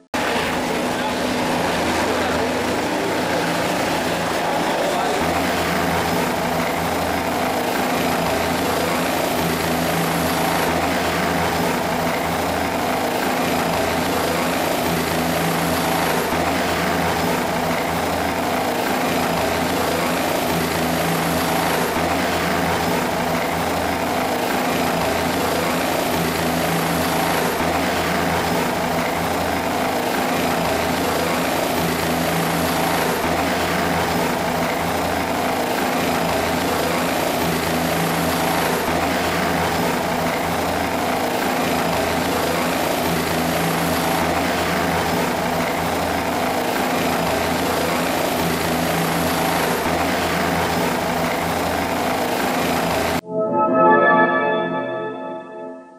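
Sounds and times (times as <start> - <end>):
helicopter rotor noise: 0.0 - 53.2
helicopter engine whine: 0.0 - 53.3.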